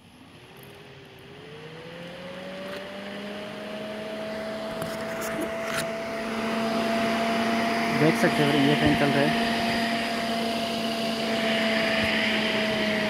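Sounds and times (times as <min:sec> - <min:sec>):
cooling fan motor whir: 0:00.0 - 0:13.0.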